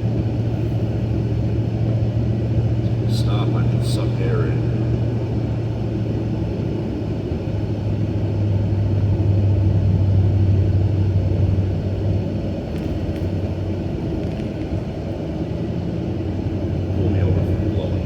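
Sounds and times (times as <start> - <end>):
car engine hum: 0.0 - 18.0
continuous rumble of driving through water: 0.0 - 18.0.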